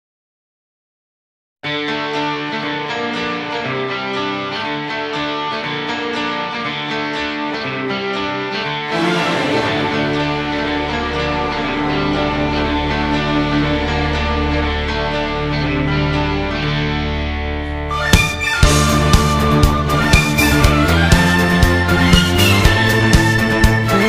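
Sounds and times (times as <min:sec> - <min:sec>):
plucked and strummed guitar music: 0:01.6 - 0:24.0.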